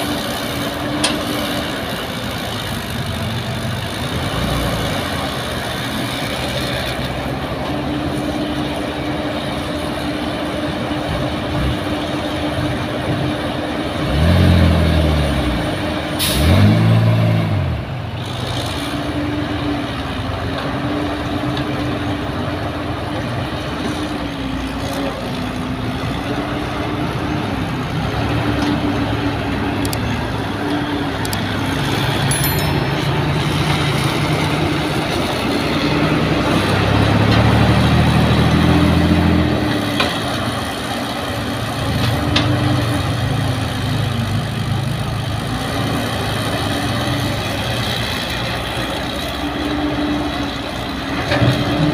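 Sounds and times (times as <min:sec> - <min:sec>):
excavator diesel engine: 0:00.0 - 0:51.9.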